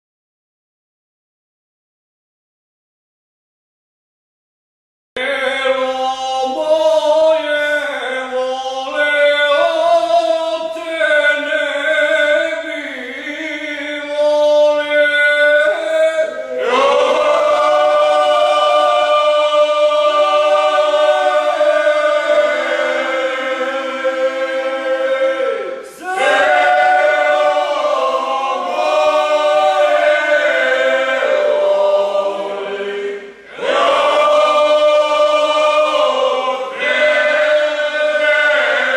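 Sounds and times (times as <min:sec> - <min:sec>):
men singing in harmony: 0:05.2 - 0:38.9.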